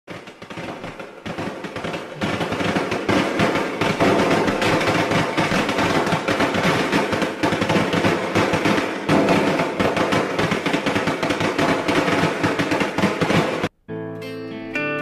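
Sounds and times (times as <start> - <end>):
firecrackers rapid bangs: 0.1 - 13.7.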